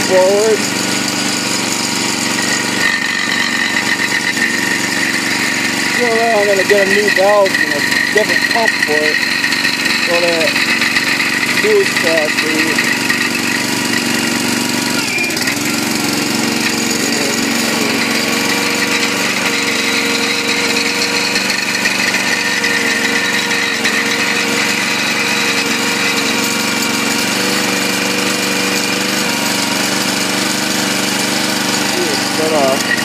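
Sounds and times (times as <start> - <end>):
gasoline engine running steadily: 0.0 - 33.0.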